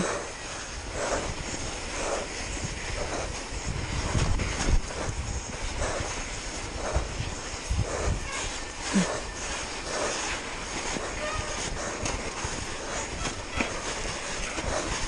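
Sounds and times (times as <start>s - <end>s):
bike tyres running through snow: 0.0s - 15.0s
wind on microphone: 0.0s - 15.0s.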